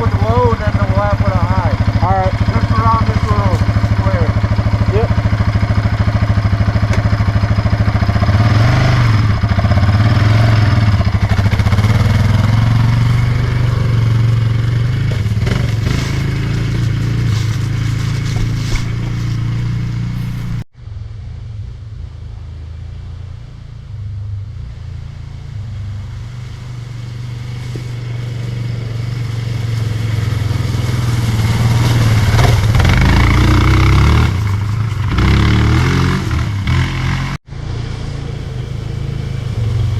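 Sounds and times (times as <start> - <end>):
quad bike engine running: 0.0 - 20.6, 22.2 - 39.9.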